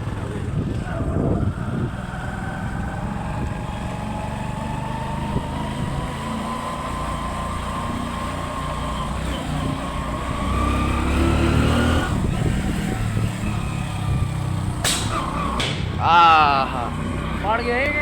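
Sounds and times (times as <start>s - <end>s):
motorcycle engine rumbling and whining: 0.0s - 18.0s.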